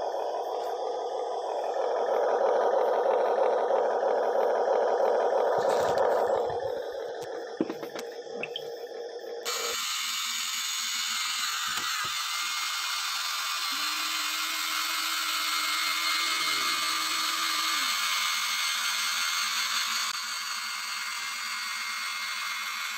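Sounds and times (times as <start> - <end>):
electric motors whirring: 0.0 - 22.9
low steady motor tone: 0.0 - 22.9.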